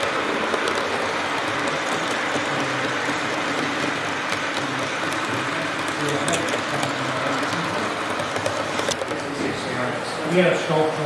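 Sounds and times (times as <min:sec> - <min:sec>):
model train wheels on track: 0:00.0 - 0:11.0.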